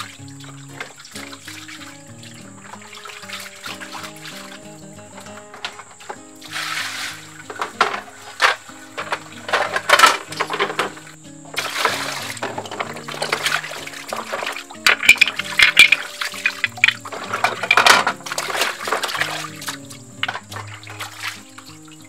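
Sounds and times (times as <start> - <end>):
tap water pouring into a basin: 0.0 - 22.0
hands scrubbing shellfish in water: 0.8 - 21.5.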